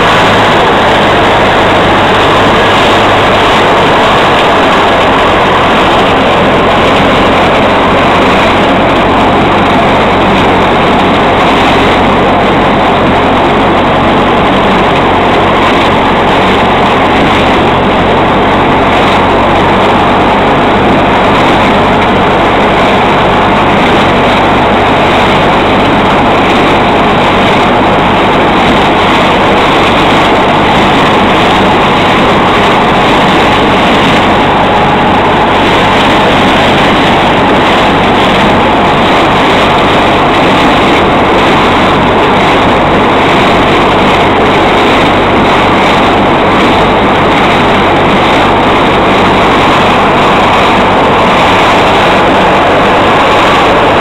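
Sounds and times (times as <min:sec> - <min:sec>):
harvester cutting corn stalks: 0:00.0 - 0:54.0
tractor diesel engine running: 0:00.0 - 0:54.0.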